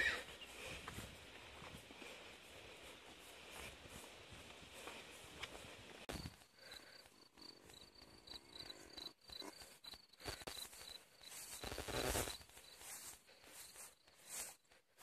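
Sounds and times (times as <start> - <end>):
rustling in grass: 0.0 - 6.5, 9.4 - 15.0
crickets chirping: 0.1 - 14.9.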